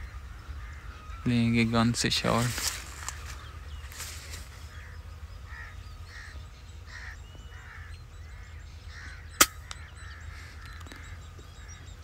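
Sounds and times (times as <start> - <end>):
birds cawing: 0.0 - 12.0.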